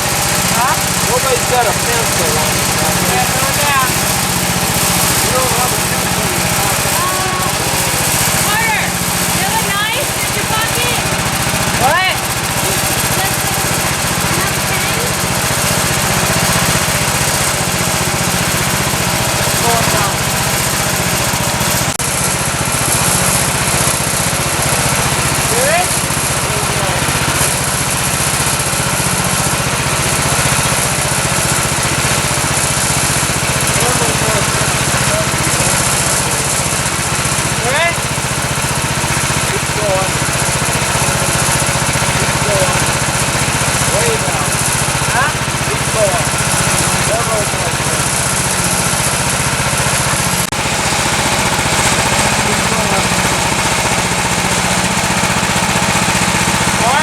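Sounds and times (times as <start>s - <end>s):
sawmill gasoline engine running: 0.0s - 57.0s.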